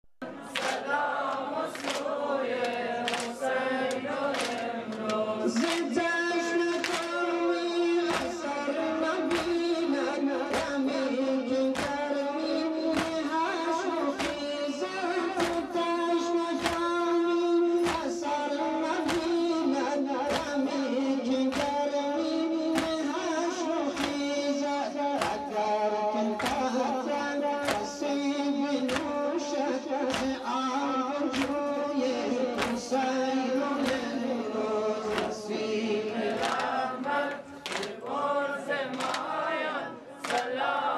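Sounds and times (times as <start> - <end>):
group of voices chanting: 0.2 - 28.0, 28.8 - 40.9
sharp rhythmic beats: 0.2 - 40.9.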